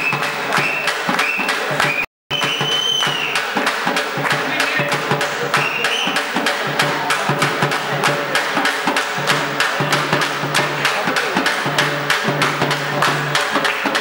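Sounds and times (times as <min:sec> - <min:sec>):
drum music with quick beats: 0:00.0 - 0:14.0.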